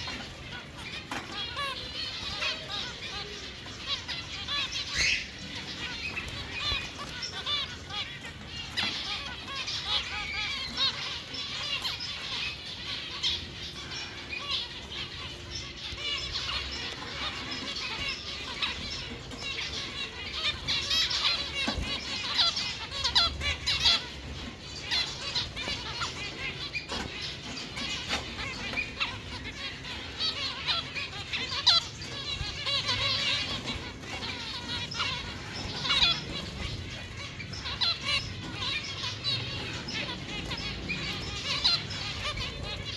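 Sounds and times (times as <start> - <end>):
caged birds chirping: 0.0 - 42.9.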